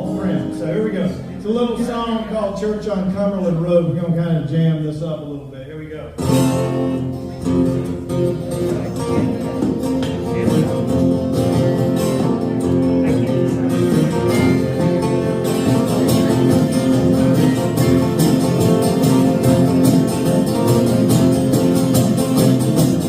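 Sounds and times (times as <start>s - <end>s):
acoustic guitar strumming: 0.0s - 4.8s, 6.1s - 23.0s.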